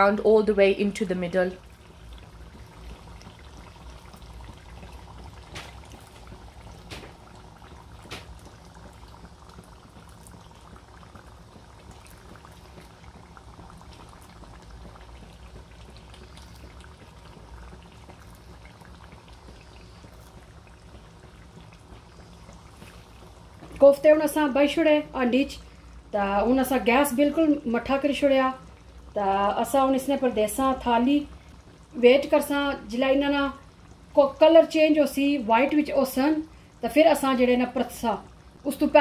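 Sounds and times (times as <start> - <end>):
sauce simmering and bubbling in a pot: 0.0 - 39.0.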